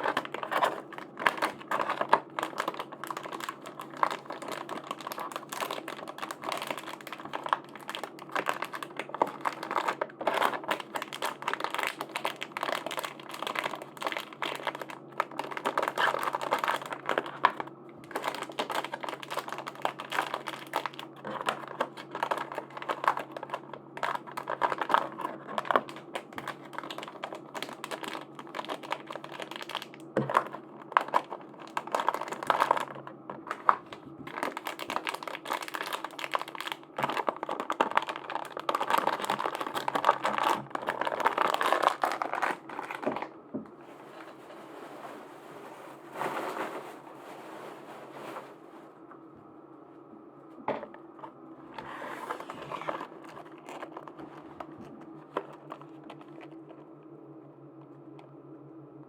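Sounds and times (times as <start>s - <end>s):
plastic packaging crinkling: 0.0s - 49.0s, 51.3s - 56.8s.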